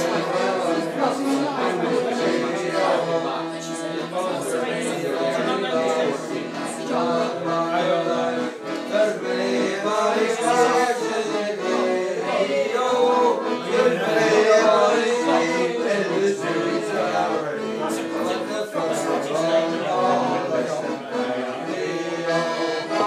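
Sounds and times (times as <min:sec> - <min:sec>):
men singing together: 0:00.0 - 0:23.0.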